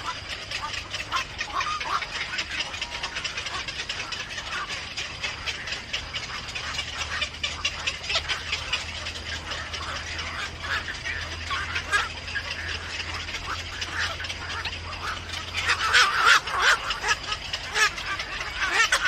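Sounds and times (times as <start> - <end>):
low hum: 0.0 - 19.0
small birds chirping: 0.0 - 19.0.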